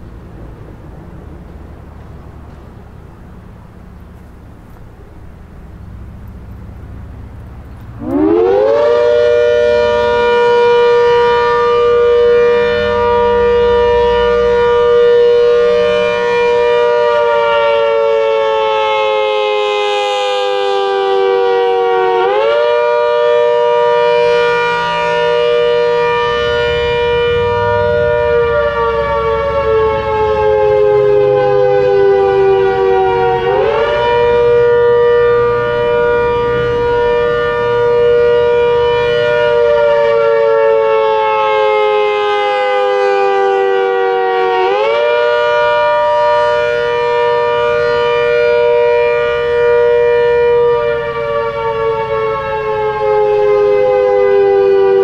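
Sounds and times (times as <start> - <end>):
rotating horn siren wailing: 7.8 - 55.0.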